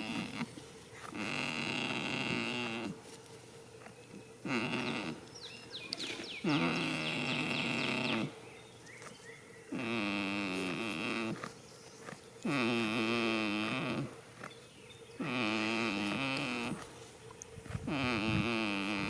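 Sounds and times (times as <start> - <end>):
goat snoring: 0.0 - 8.6, 9.6 - 19.0.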